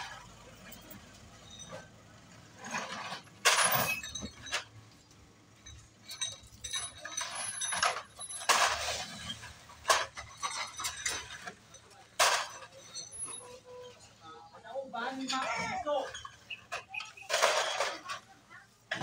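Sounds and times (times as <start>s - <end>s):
crates of glass bottles clattering: 0.0s - 14.2s, 15.2s - 19.0s.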